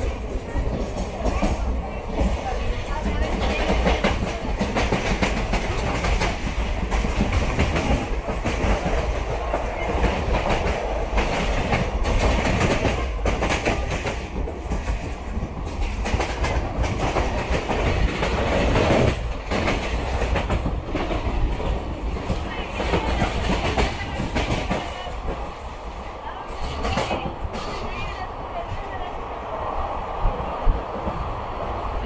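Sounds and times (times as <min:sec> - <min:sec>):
clickety-clack over track: 0:00.0 - 0:32.0
train wheels rumbling on rails: 0:00.0 - 0:32.0.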